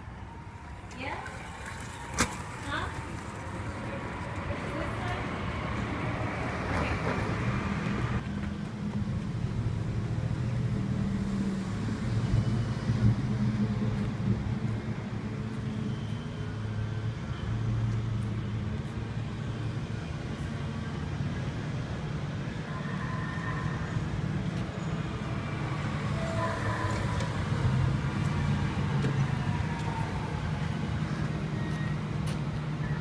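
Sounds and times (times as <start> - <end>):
car engines idling and moving: 0.0 - 33.0.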